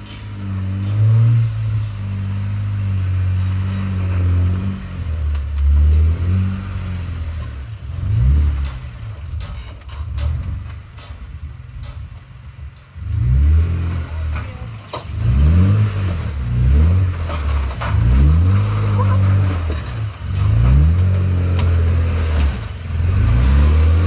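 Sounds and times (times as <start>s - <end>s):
truck engine running at low revs: 0.0s - 24.0s.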